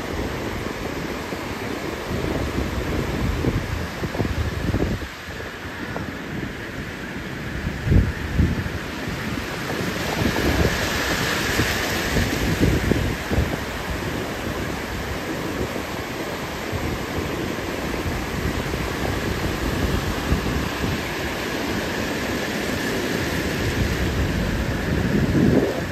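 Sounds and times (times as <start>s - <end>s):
ocean surf breaking on shore: 0.0s - 25.9s
wind buffeting microphone: 0.0s - 25.9s.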